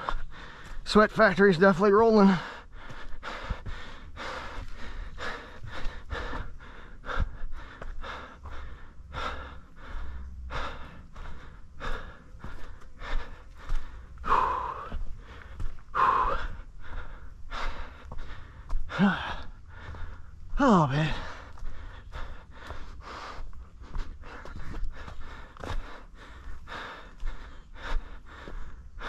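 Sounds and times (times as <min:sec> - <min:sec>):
heavy rapid breathing: 0:00.0 - 0:29.0
voiced gasps: 0:02.2 - 0:29.0.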